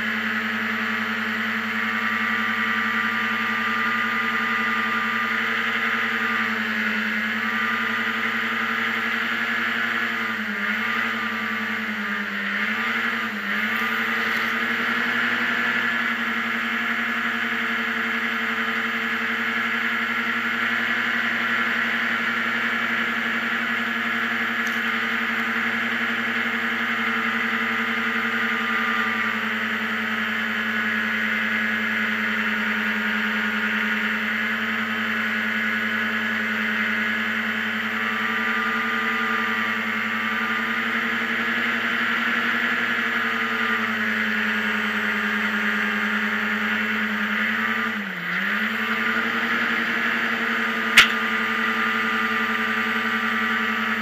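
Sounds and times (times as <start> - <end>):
hovercraft engine running hard: 0.0 - 54.0.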